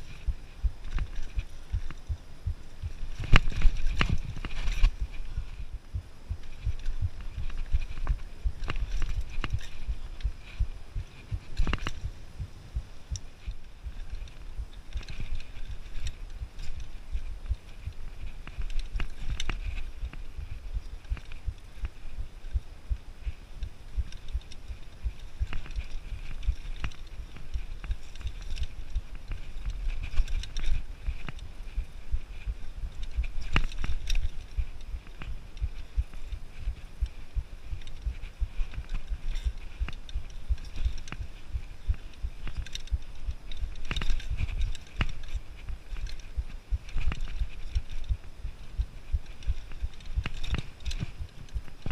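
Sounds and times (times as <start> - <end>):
bike thumps clicks and rattles: 0.0 - 51.9.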